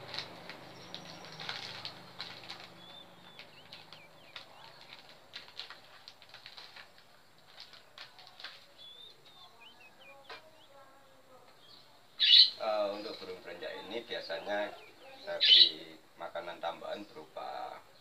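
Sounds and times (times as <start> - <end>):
bird chirping: 0.5 - 5.3, 7.8 - 18.0.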